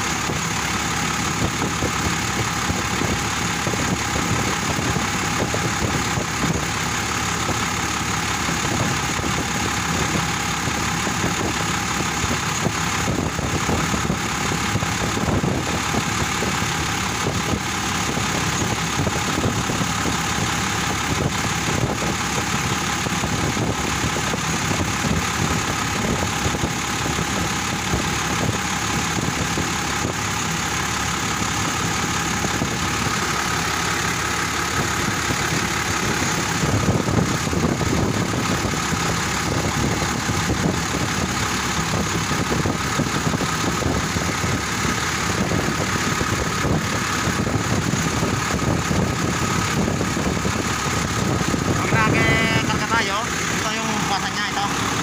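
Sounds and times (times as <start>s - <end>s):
air conditioning running: 0.0s - 55.0s
car engine idling: 0.0s - 55.0s.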